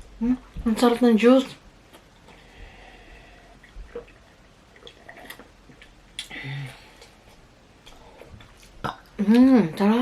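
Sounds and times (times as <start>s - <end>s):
mouth sounds of eating and drinking: 1.9s - 10.0s.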